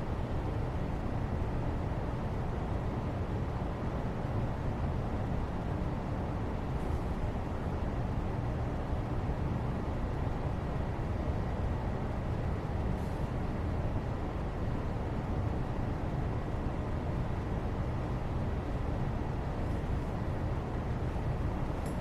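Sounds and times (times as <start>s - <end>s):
low white noise: 0.0s - 22.0s.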